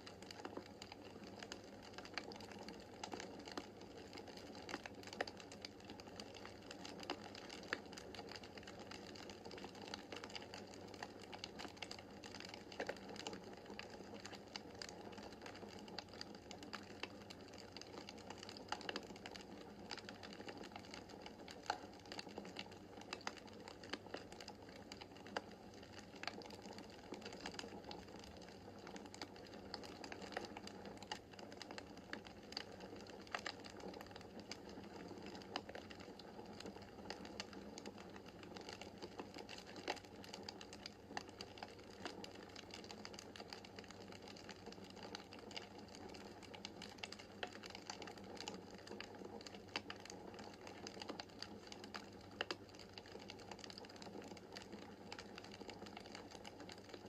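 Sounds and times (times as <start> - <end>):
wood fire crackling: 0.1 - 56.9.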